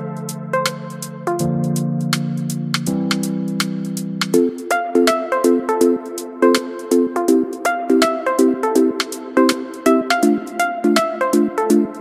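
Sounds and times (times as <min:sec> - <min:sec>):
electronic music with synth chords: 0:00.0 - 0:12.0.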